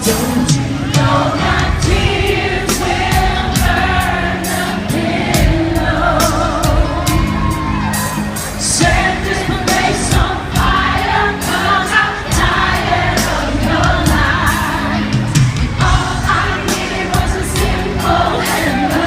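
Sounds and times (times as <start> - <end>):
dance-pop music: 0.0 - 7.9, 8.5 - 19.0.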